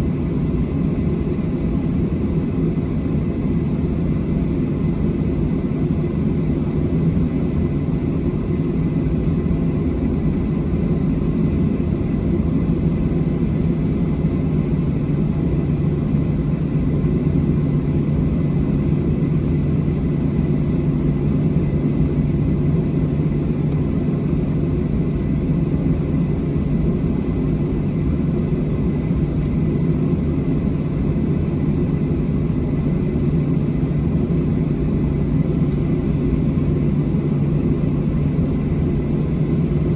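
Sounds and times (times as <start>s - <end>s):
faint steady whine: 0.0s - 39.9s
jet engine low rumble in cabin: 0.0s - 39.9s.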